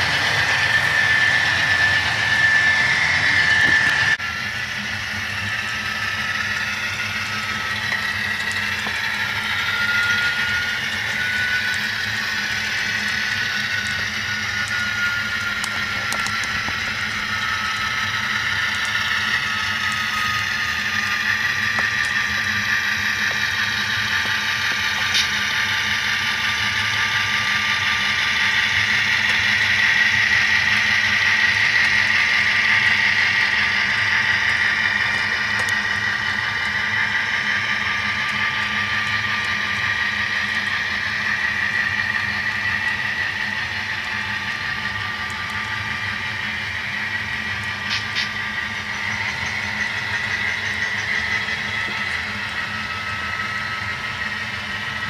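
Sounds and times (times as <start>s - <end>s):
diesel engine sound effect: 0.0s - 55.0s
model train motor whirring: 0.0s - 55.0s
thin whine dropping in pitch: 0.0s - 55.0s
wheels clicking over rail joints: 5.2s - 55.0s.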